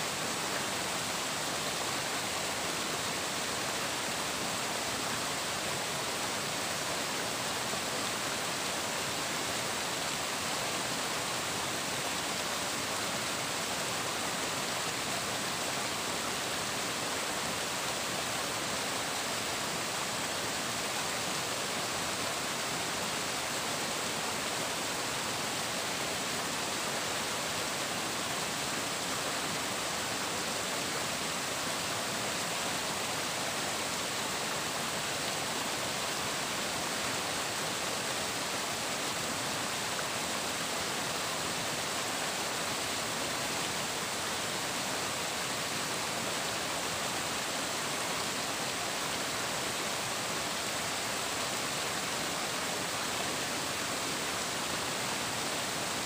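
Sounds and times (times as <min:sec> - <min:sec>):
water flowing and splashing: 0:00.0 - 0:56.0.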